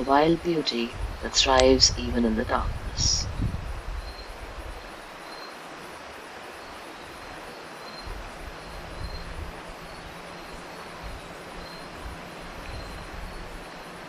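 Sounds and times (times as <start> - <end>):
crickets chirping: 0.0 - 14.0
high pulsing insect trill: 0.0 - 14.0
river flowing: 0.0 - 14.0.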